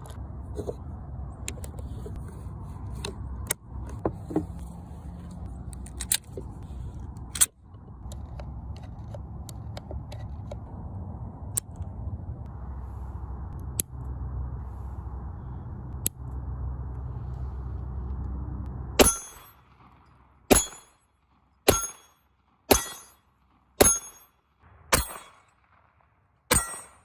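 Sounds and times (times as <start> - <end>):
low rumble: 0.0 - 21.6, 24.5 - 27.0.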